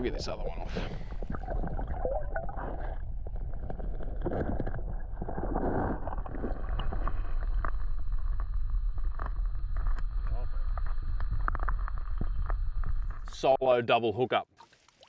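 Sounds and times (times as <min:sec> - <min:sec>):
underwater rumble of moving water: 0:00.0 - 0:13.8.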